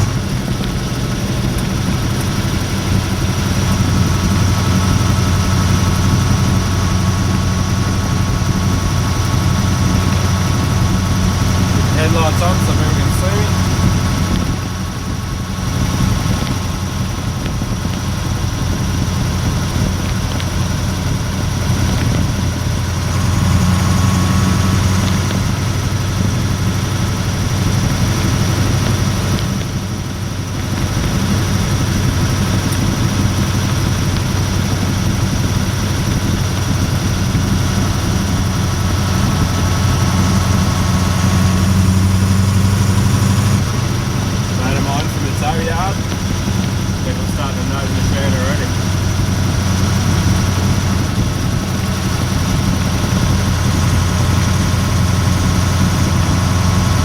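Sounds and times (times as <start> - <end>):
diesel truck engine drone: 0.0 - 57.0.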